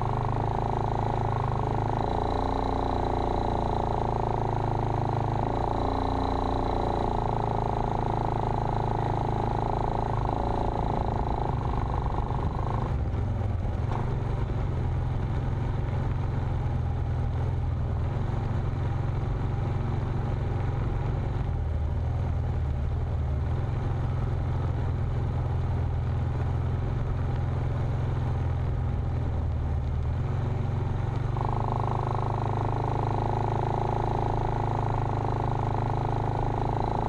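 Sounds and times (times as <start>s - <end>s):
off-road vehicle engine drone: 0.0s - 37.0s.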